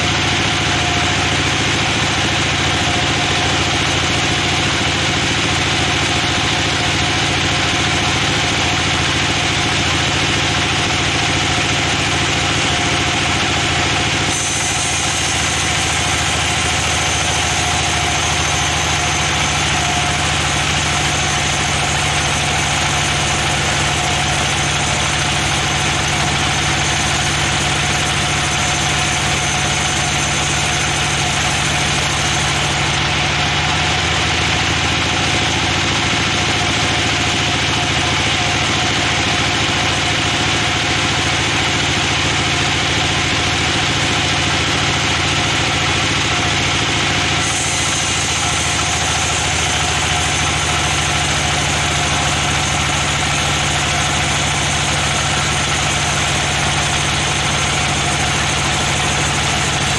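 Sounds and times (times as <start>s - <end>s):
sawmill machine drone: 0.0s - 59.9s.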